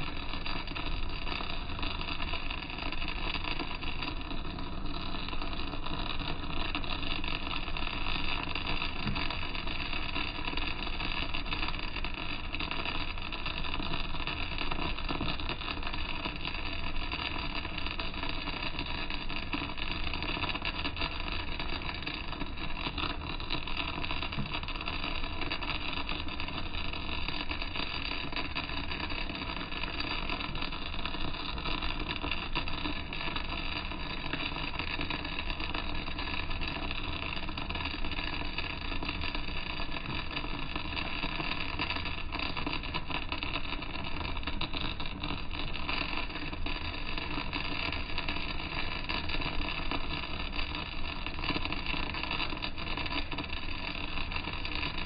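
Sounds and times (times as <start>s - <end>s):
arc welding crackle: 0.0s - 55.0s.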